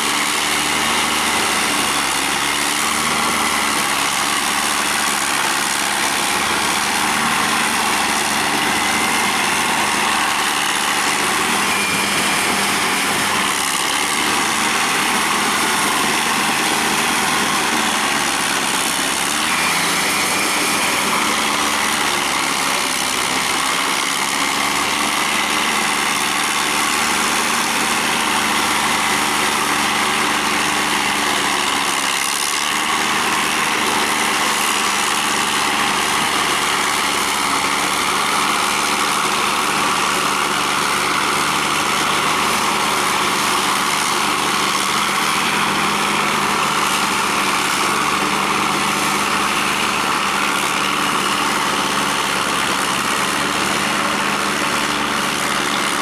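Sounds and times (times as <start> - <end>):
tiller and tracks working mud: 0.0 - 56.0
tractor diesel engine under load: 0.0 - 56.0.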